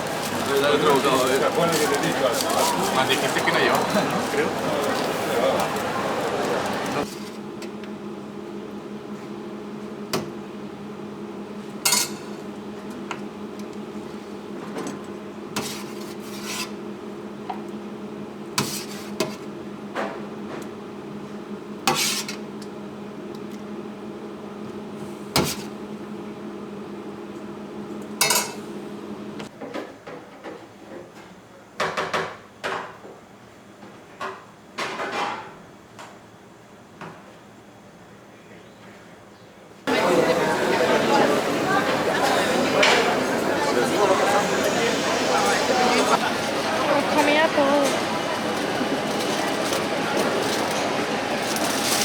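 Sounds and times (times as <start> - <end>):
appliance hum: 0.0 - 29.5, 39.9 - 52.0.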